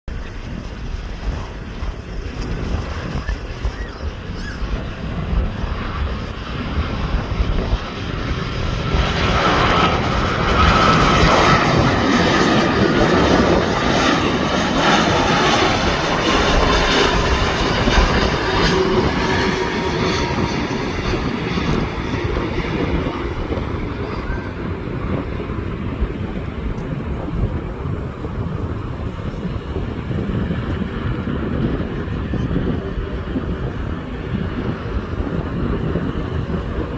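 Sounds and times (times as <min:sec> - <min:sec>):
jet airliner passing by: 0:00.1 - 0:36.9
low wind rumble on microphone: 0:00.1 - 0:36.9.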